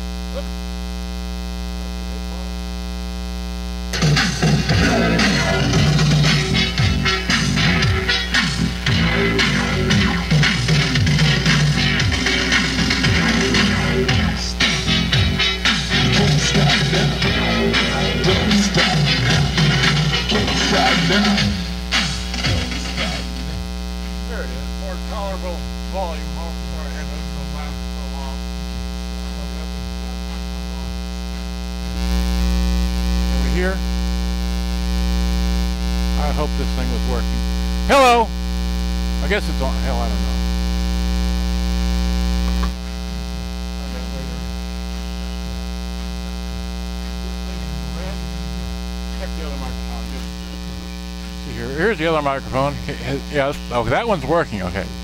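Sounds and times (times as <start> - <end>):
mains hum: 0.0 - 55.0.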